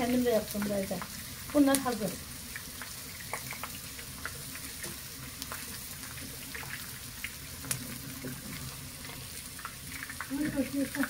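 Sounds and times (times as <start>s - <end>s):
food sizzling in a pan: 0.0s - 11.0s
oil popping and crackling: 0.0s - 11.0s.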